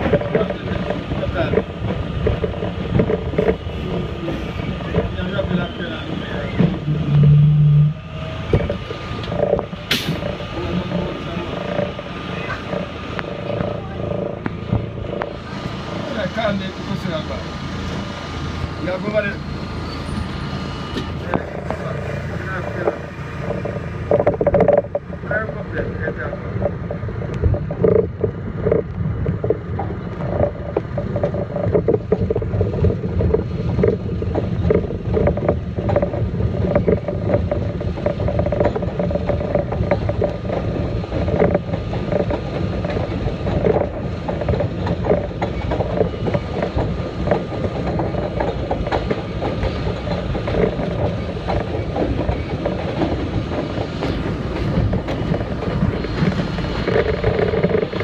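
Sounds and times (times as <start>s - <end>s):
subway car wheels rumbling: 0.0s - 58.0s
wheels clacking over rail joints: 0.0s - 58.0s.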